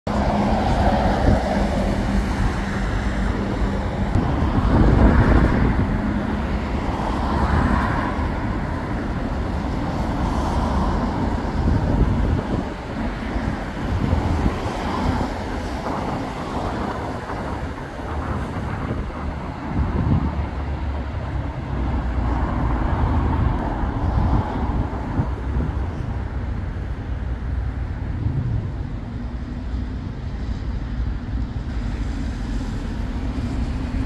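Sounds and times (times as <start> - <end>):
cars driving by: 0.1 - 34.0.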